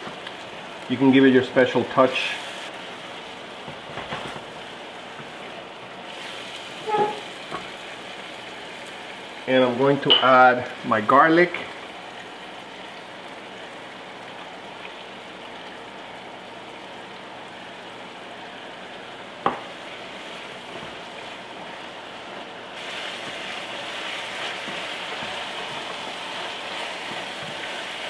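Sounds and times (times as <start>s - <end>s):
meat and sauce sizzling in a skillet: 0.0s - 28.0s.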